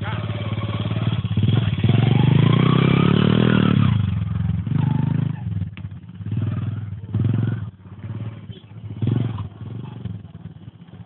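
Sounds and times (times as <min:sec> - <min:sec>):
mini motocross bike engine revving: 0:00.0 - 0:05.6, 0:06.2 - 0:11.0.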